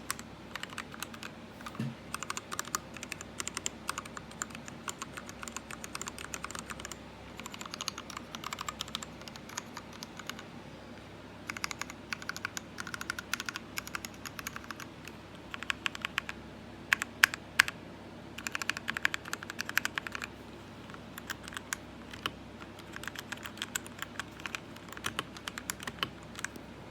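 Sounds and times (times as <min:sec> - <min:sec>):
mechanical keyboard typing: 0:00.0 - 0:10.4, 0:11.4 - 0:17.8, 0:18.4 - 0:20.3, 0:20.9 - 0:26.7.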